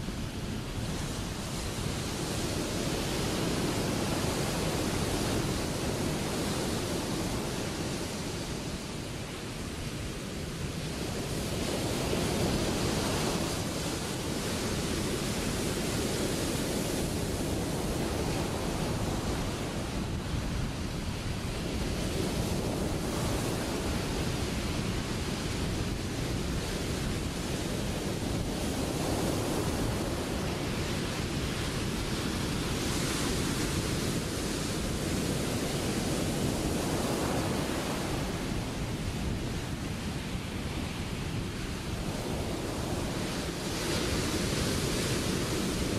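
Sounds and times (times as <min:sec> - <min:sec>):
ocean waves breaking: 0:00.1 - 0:45.9.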